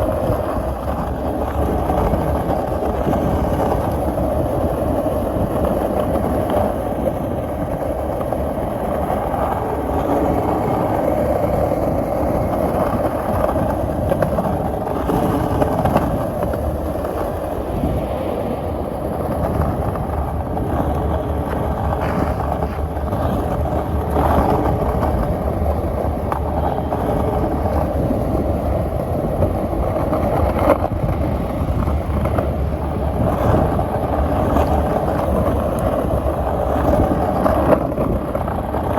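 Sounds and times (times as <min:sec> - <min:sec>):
skateboard wheels rolling on pavement: 0:00.0 - 0:38.9.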